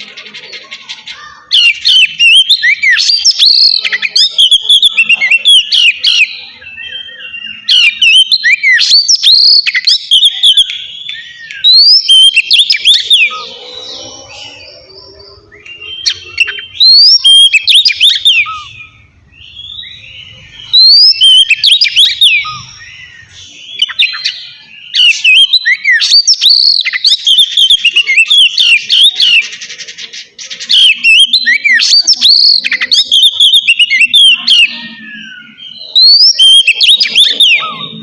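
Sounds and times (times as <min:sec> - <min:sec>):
bird singing whistled notes: 0:01.2 - 0:29.6, 0:30.5 - 0:38.0.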